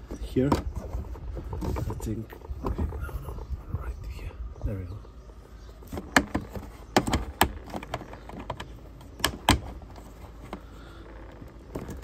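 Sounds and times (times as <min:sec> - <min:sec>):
hard plastic clicks and knocks: 0:00.1 - 0:03.5, 0:05.3 - 0:12.0.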